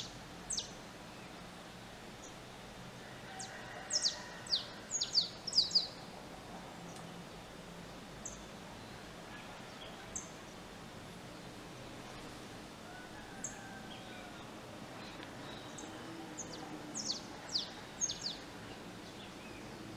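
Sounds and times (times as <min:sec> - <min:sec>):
small birds chirping: 0:00.0 - 0:02.6, 0:03.4 - 0:06.1, 0:08.2 - 0:19.9
steady background hiss: 0:00.0 - 0:19.9.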